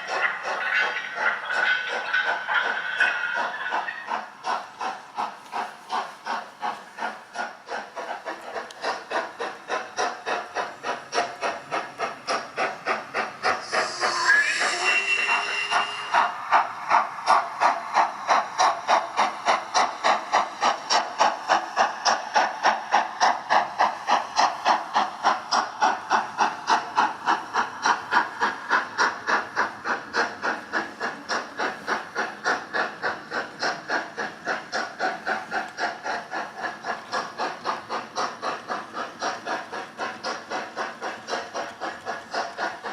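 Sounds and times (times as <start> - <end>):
steam hiss: 0.0 - 42.9
steam locomotive chuffing: 0.0 - 42.9.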